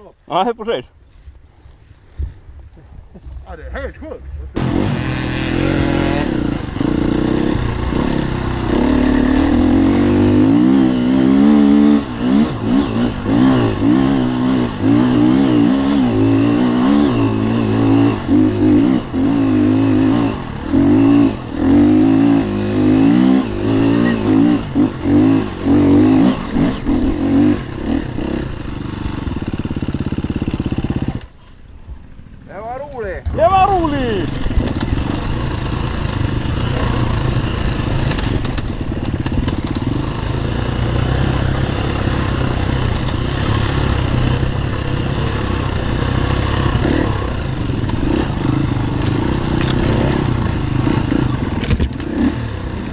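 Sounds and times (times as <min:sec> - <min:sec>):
dirt bike engine revving: 0:04.5 - 0:31.3, 0:33.2 - 0:52.9.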